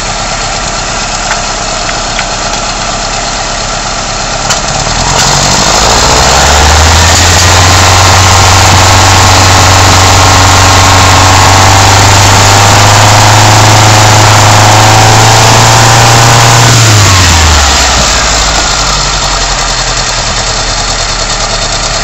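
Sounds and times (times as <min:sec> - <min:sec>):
car engine revving and idling: 0:00.0 - 0:22.0.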